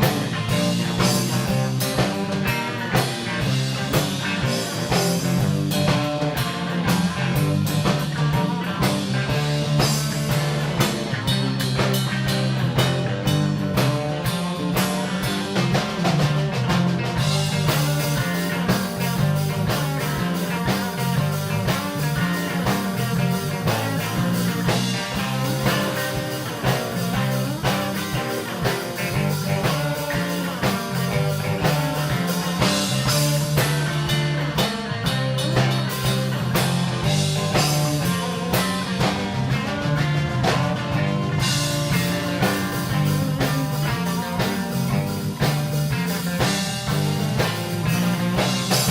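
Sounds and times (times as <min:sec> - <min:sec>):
blues band playing: 0:00.0 - 0:48.9
electric guitar: 0:00.0 - 0:48.9.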